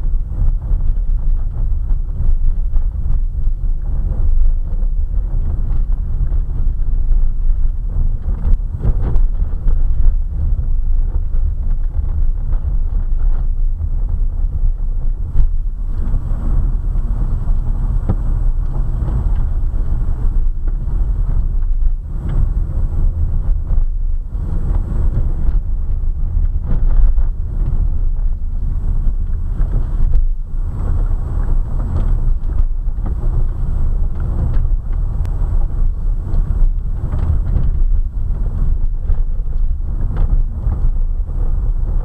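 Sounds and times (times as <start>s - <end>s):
tyres rumbling on gravel: 3.8s - 42.0s.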